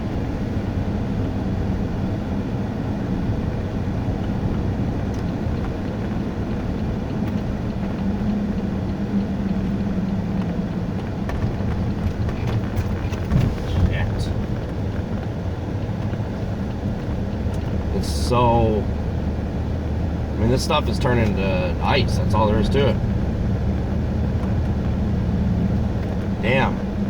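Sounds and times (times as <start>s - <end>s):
car engine drone: 0.0s - 27.0s
tyre noise on slushy road: 0.0s - 27.0s.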